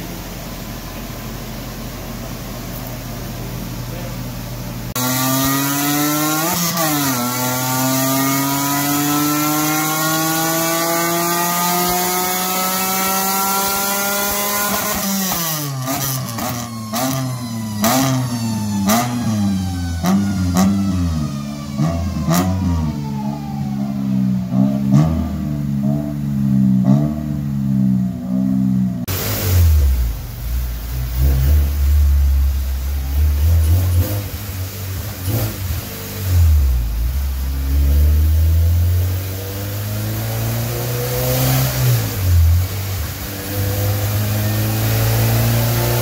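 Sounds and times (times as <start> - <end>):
rally car engine revving: 4.8 - 46.0.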